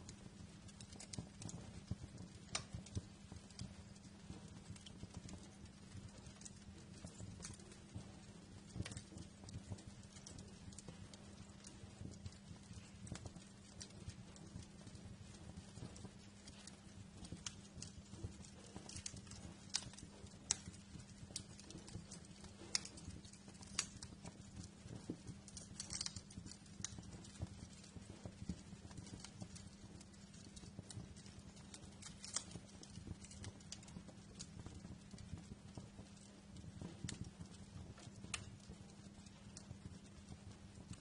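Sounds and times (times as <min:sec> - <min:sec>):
low steady hum: 0:00.0 - 0:41.0
wood fire crackling: 0:00.0 - 0:41.0.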